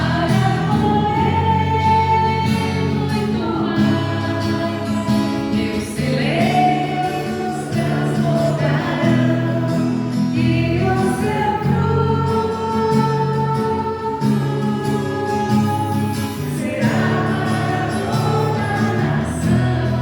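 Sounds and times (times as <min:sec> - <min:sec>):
group singing gospel song: 0:00.0 - 0:20.0.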